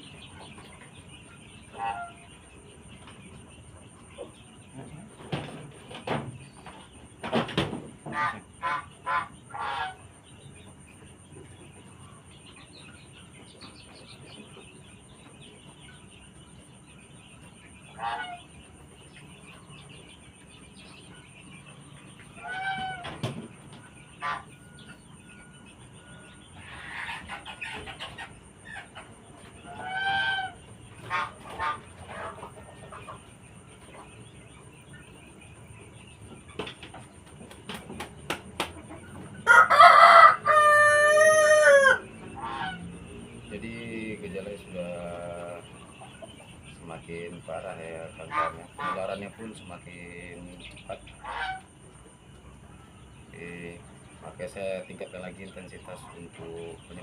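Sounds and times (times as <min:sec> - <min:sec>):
chickens clucking and squawking: 0:00.0 - 0:57.0.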